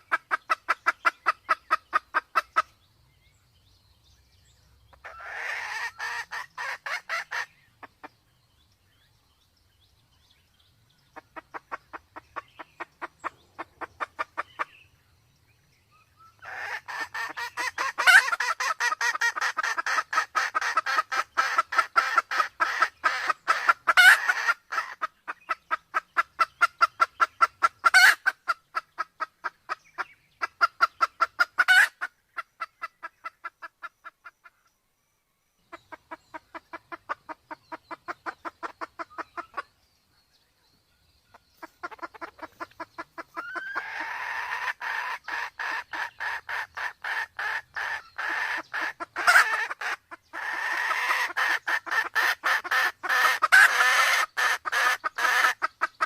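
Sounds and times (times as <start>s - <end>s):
hen clucking: 0.0s - 2.8s, 4.9s - 8.2s, 11.2s - 14.8s, 16.4s - 34.5s, 35.7s - 39.7s, 41.6s - 56.0s.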